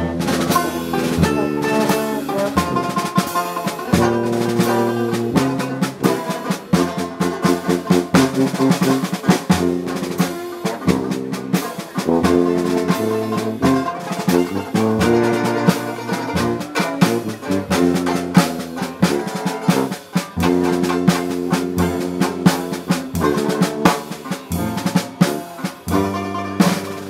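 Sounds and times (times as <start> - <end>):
jazz band playing: 0.0 - 27.0.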